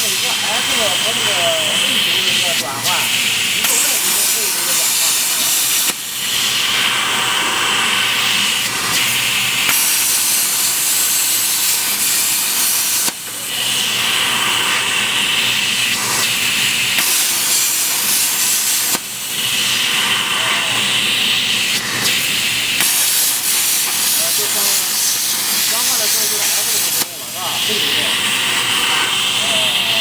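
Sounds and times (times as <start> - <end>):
plasma torch hissing: 0.0 - 30.0.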